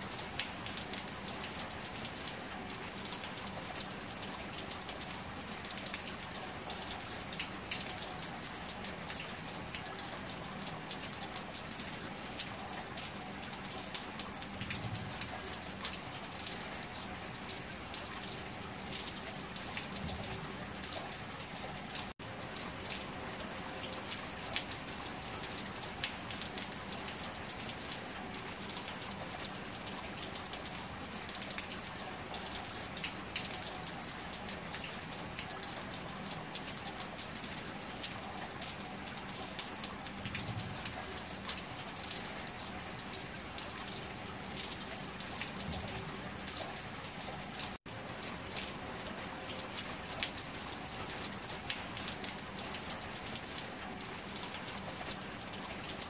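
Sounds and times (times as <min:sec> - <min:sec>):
heavy rain on concrete: 0:00.0 - 0:56.0.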